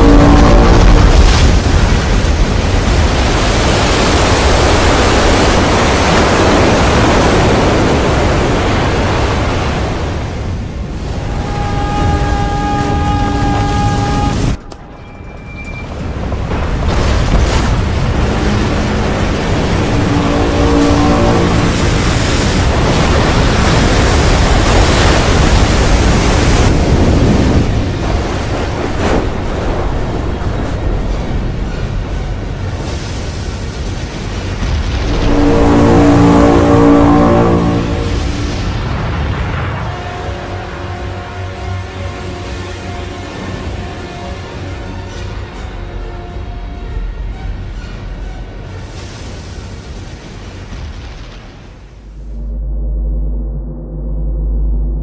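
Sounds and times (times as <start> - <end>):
floodwater rushing: 0.0 - 14.8, 15.8 - 45.5
wind: 0.0 - 55.0.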